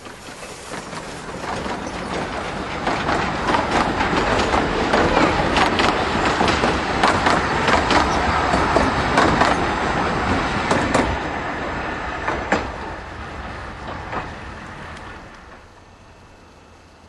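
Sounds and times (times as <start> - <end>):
train wheels clicking over rail joints: 0.0 - 17.0.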